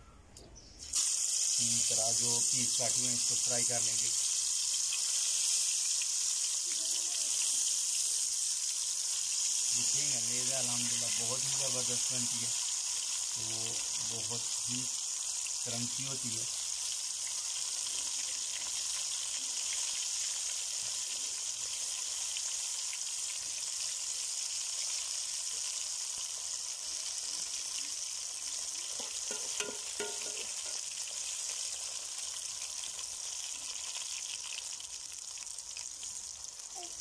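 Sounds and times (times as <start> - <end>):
deep-frying sizzle: 0.8 - 37.0.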